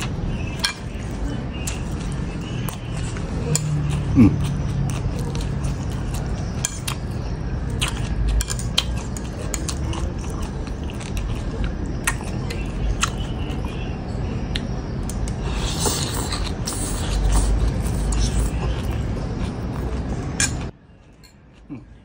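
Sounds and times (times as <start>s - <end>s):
man chewing: 0.0s - 22.0s.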